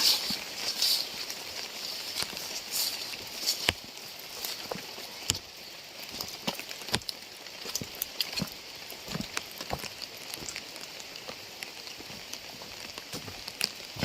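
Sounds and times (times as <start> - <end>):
large raindrops striking: 0.0 - 14.0
rain hissing: 0.0 - 14.0.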